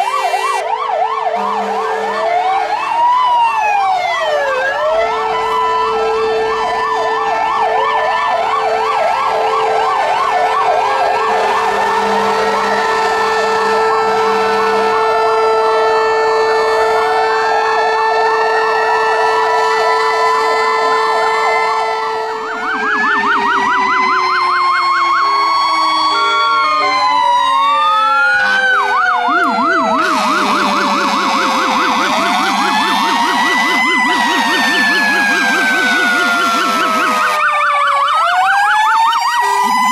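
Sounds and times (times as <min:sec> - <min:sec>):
fire engine sirens wailing: 0:00.0 - 0:39.9
fire engine sirens yelping: 0:00.0 - 0:39.9
steady held siren tone: 0:00.0 - 0:39.9.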